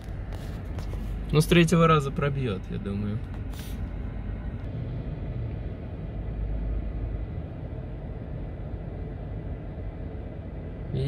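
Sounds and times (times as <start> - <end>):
suv engine rumbling: 0.0 - 11.0.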